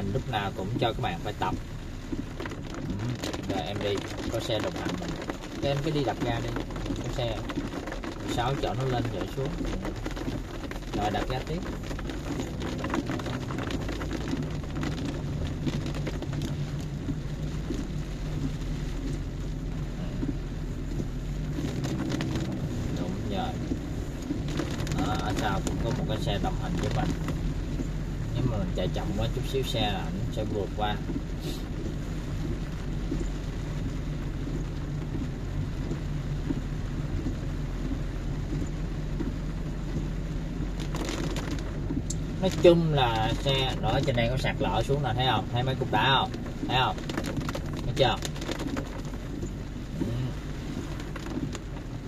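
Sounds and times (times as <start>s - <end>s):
car engine under throttle: 0.0s - 52.0s
rain on car windshield: 0.0s - 52.0s
tyre noise on wet road: 0.0s - 52.0s.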